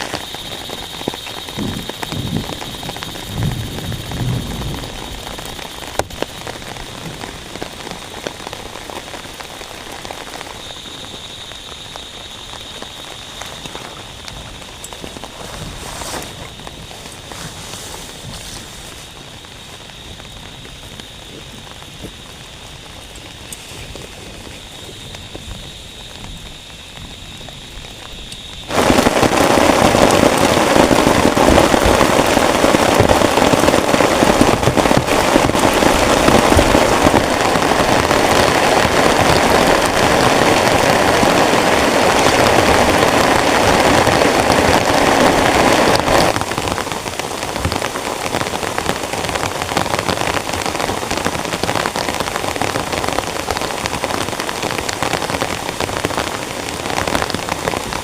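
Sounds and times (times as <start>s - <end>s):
heavy rain drumming on a tent: 0.0s - 58.0s.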